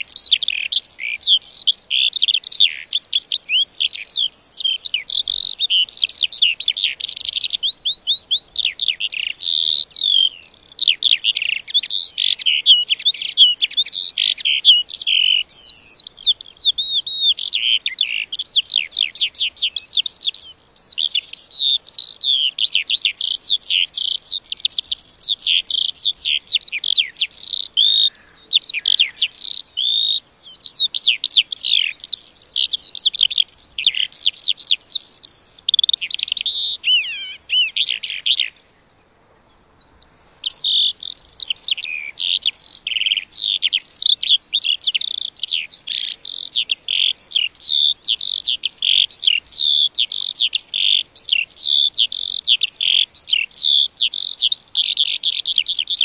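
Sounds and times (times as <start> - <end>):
lark singing: 0.0 - 56.0.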